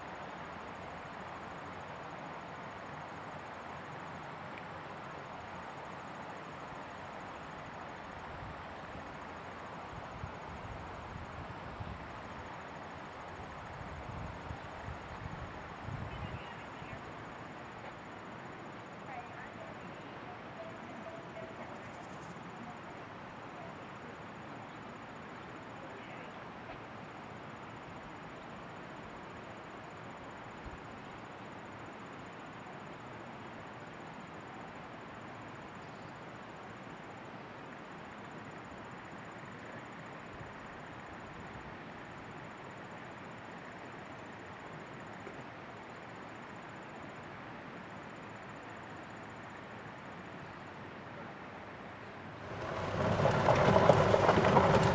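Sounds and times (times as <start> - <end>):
faint high-pitched insect trill: 0.0 - 54.8
steady outdoor hiss: 0.0 - 54.9.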